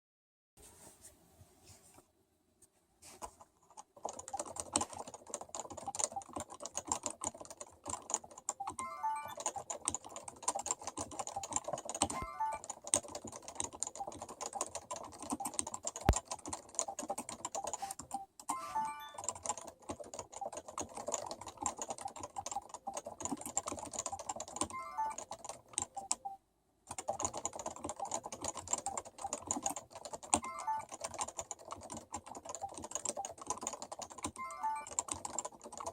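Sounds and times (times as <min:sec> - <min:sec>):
soft keyboard typing: 0:03.2 - 0:35.9.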